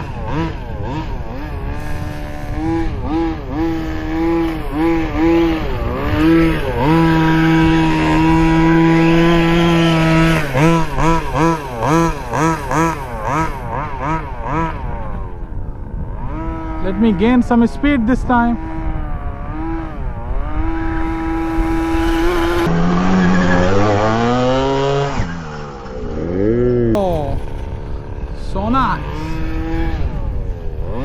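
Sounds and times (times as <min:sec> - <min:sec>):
small two-stroke engine revving: 0:00.0 - 0:31.0.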